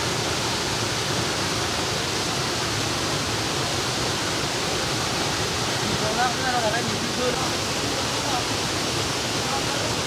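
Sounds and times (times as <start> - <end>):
waterfall rushing and splashing: 0.0 - 10.0.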